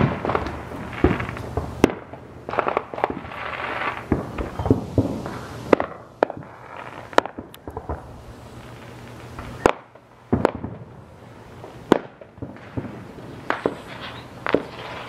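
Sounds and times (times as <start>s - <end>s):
firework pops and crackle: 0.0s - 10.9s, 11.6s - 15.0s
firework shells bursting: 0.0s - 10.9s, 11.5s - 15.0s.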